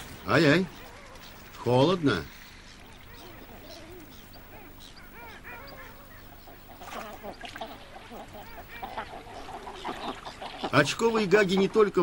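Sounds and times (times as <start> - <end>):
ducks calling: 0.0 - 12.0.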